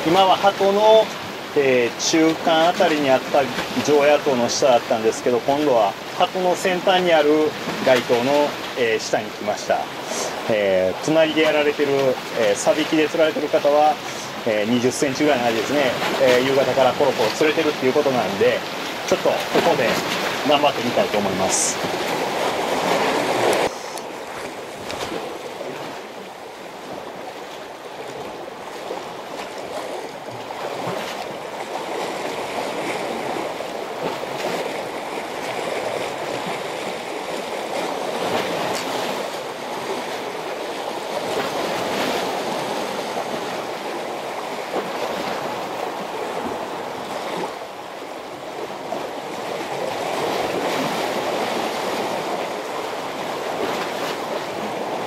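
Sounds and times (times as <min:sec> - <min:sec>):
sea water washing against concrete: 0:00.0 - 0:55.0.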